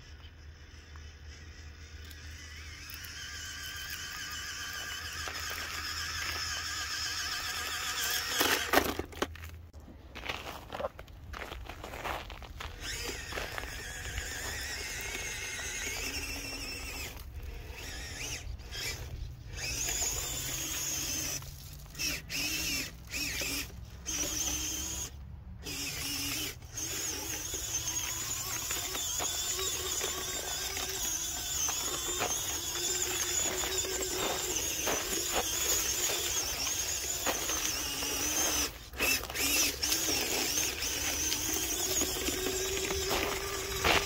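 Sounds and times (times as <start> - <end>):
electric motor whine: 0.0 - 9.5, 12.5 - 44.0
tyres crunching over grass and ice: 4.7 - 25.1, 25.7 - 44.0.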